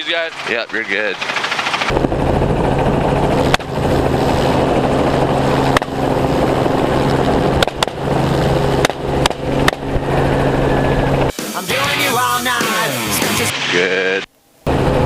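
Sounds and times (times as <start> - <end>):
helicopter running: 0.0 - 13.9, 14.6 - 15.0.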